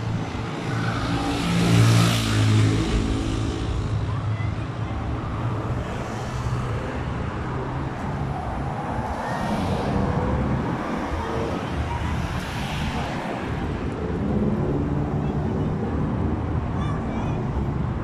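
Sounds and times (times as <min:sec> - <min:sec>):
cars passing on a road: 0:00.0 - 0:18.0.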